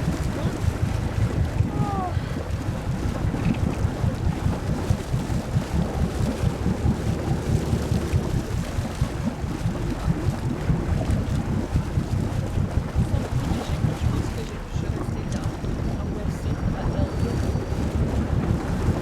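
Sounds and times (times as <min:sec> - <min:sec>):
boat engine droning: 0:00.0 - 0:19.0
wind buffeting microphone: 0:00.0 - 0:19.0.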